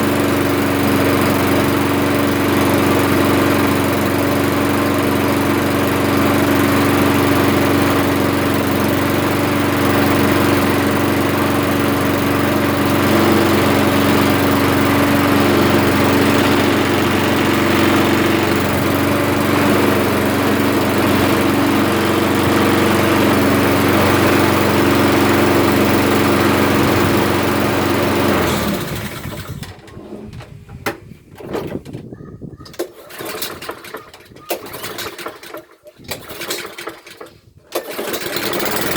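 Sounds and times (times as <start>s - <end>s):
lawnmower engine running: 0.0s - 38.9s.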